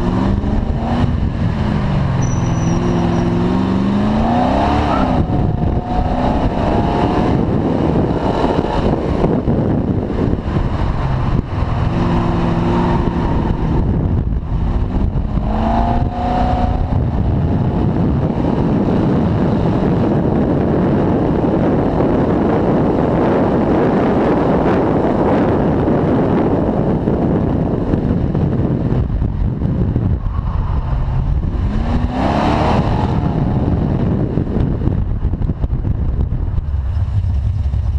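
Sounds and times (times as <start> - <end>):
car engine accelerating hard: 0.0 - 37.9
wind buffeting microphone: 0.0 - 37.9.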